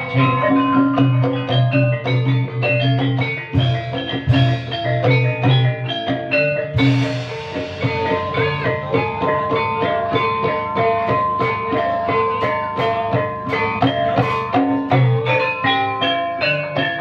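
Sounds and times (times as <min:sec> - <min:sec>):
steady drum beat: 0:00.0 - 0:17.0
struck mallet percussion melody: 0:00.0 - 0:17.0.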